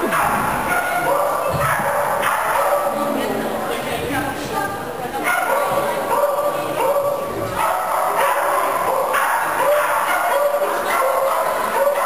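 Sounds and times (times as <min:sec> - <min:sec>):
dog barking: 0:00.0 - 0:03.1, 0:05.2 - 0:12.0.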